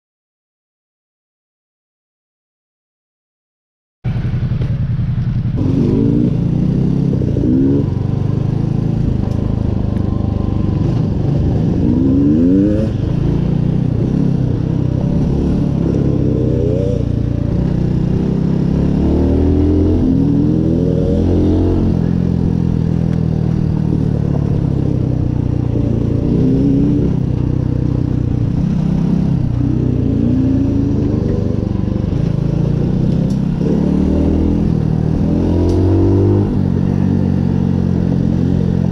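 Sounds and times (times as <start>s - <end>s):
motorcycle engine revving: 4.1s - 38.9s.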